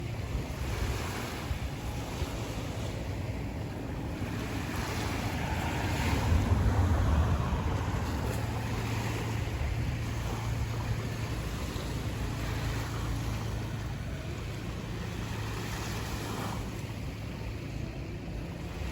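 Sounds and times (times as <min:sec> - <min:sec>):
sea waves washing onto beach: 0:00.0 - 0:18.9
wind buffeting microphone: 0:00.0 - 0:18.9.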